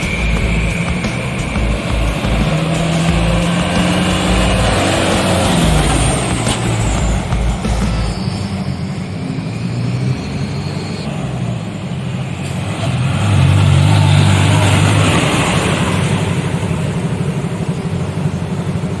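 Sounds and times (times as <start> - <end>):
road hiss: 0.0 - 19.0
truck engine drone: 0.0 - 19.0.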